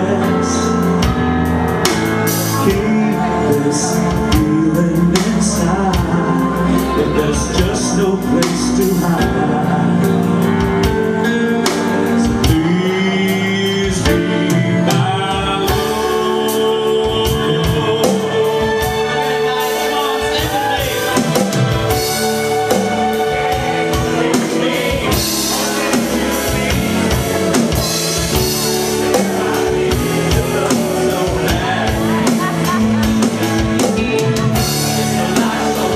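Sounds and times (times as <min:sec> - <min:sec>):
drum kit beat: 0:00.0 - 0:35.9
live band music: 0:00.0 - 0:35.9.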